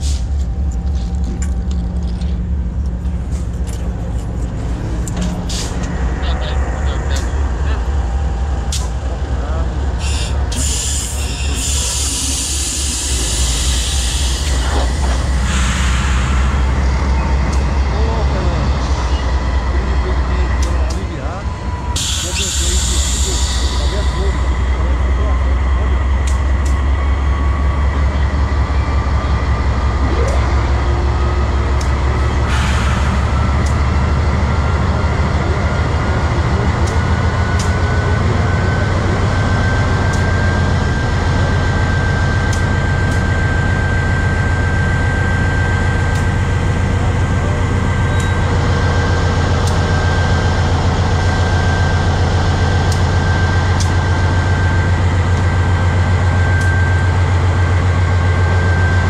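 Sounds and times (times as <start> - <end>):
locomotive engine drone: 0.0 - 59.0.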